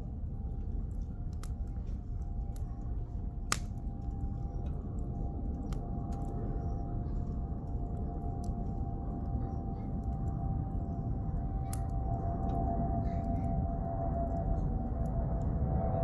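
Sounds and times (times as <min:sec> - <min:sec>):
campfire crackling and popping: 0:00.0 - 0:15.4.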